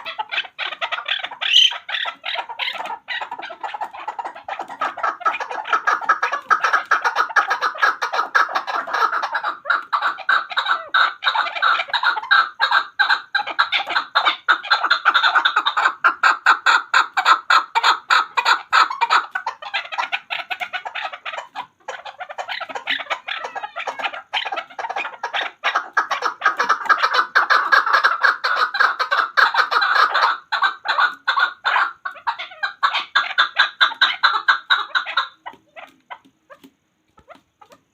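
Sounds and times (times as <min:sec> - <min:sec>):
partridge chattering calls: 0:00.0 - 0:37.8.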